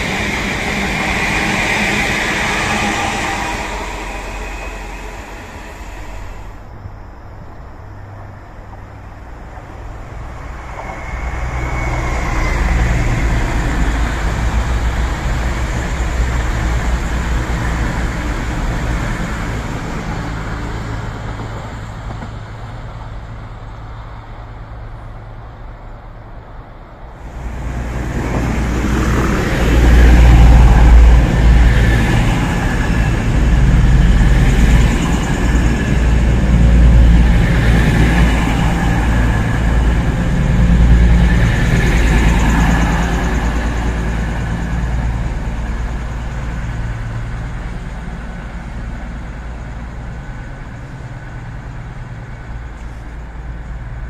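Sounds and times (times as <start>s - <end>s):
train engine hum: 0.0s - 54.0s.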